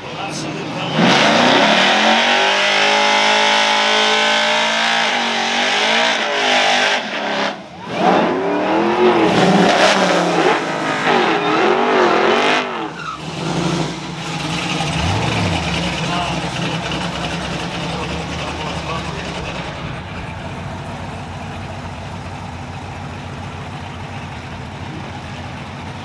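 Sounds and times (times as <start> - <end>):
pickup engine revving: 0.0 - 26.0
tires spinning: 0.0 - 26.0.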